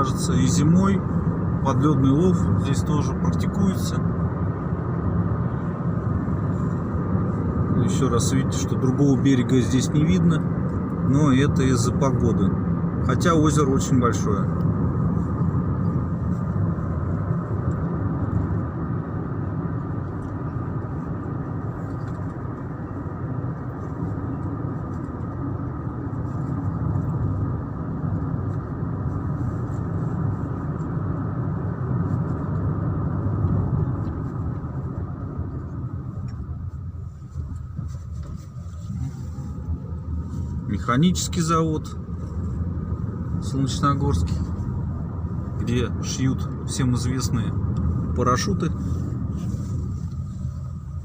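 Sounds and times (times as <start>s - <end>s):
car cabin road and engine rumble: 0.0s - 51.0s.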